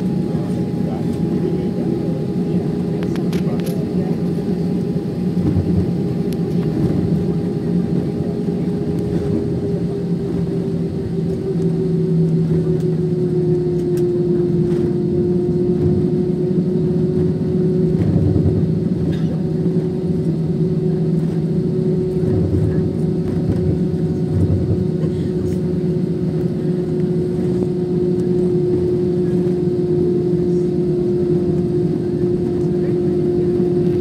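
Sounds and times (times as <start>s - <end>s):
jet engines droning in cabin: 0.0s - 34.0s.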